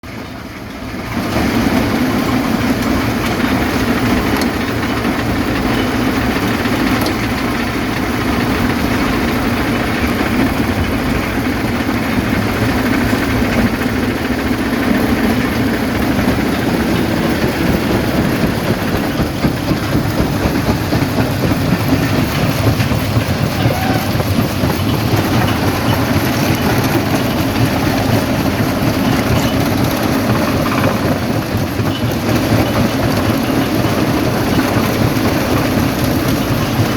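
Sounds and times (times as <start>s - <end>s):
rock crusher rumbling: 0.1s - 36.9s.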